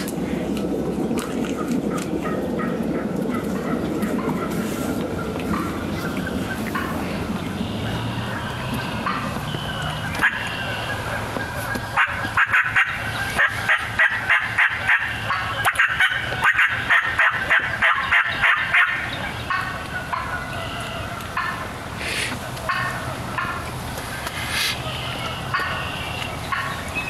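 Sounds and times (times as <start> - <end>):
turkey calling: 2.2 - 27.0.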